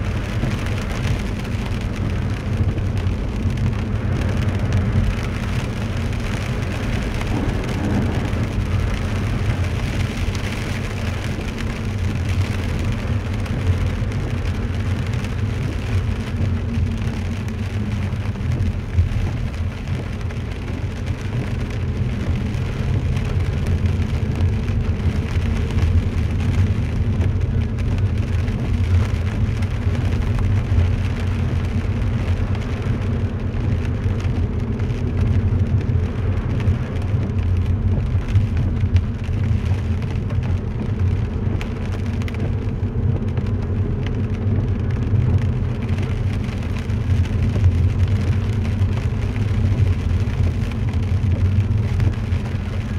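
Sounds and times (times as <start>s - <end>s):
car interior rumble: 0.0s - 52.9s
rain on car roof: 0.0s - 52.9s
tyres on wet road: 0.0s - 52.9s.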